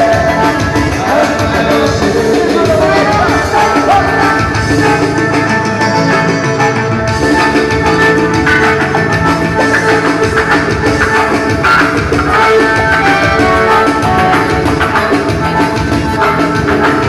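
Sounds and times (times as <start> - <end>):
loud live band music: 0.0 - 17.0.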